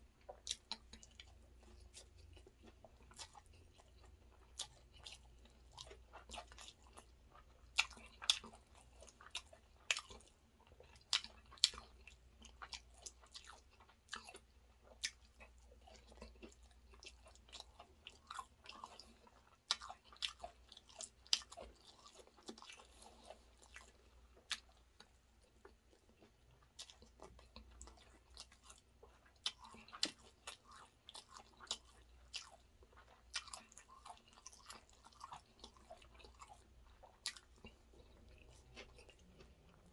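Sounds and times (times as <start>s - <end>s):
person chewing: 0.2s - 39.9s.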